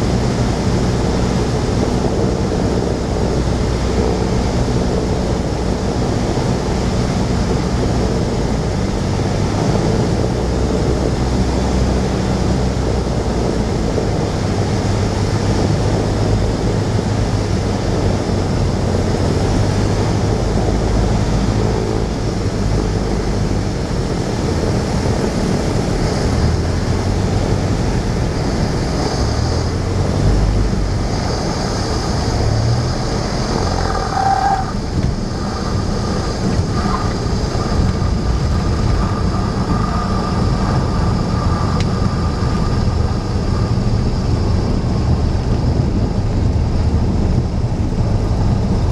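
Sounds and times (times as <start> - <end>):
airflow and wind noise: 0.0 - 48.9
airplane engine and propeller: 0.0 - 48.9.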